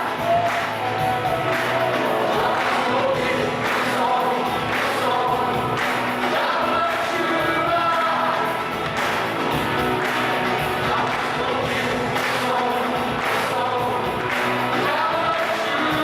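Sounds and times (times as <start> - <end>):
backing music with steady beat: 0.0 - 16.0
choir singing: 0.0 - 16.0.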